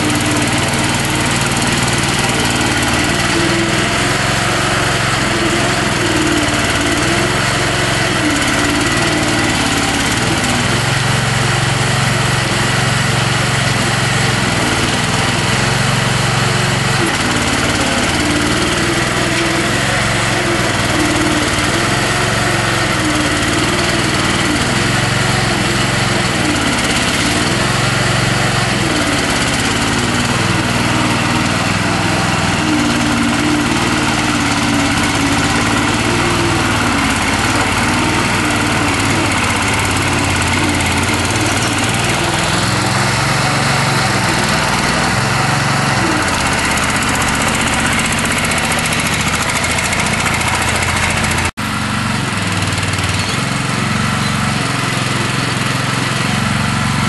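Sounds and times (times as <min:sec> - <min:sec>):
small tractor engine running: 0:00.0 - 0:57.0.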